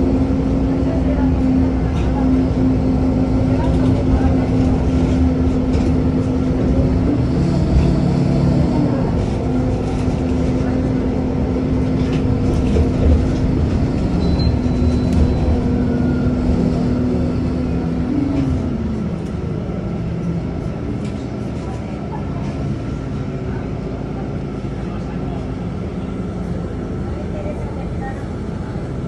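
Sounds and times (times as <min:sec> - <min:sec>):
bus drive whine: 0:00.0 - 0:29.0
bus engine and road rumble: 0:00.0 - 0:29.0.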